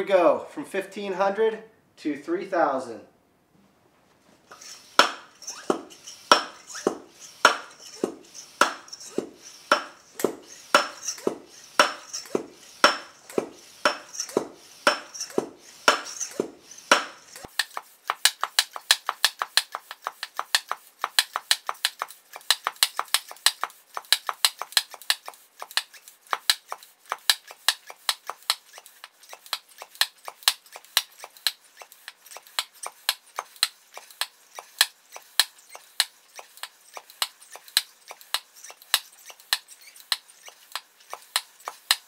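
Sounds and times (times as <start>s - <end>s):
hand pump strokes: 4.5s - 42.0s.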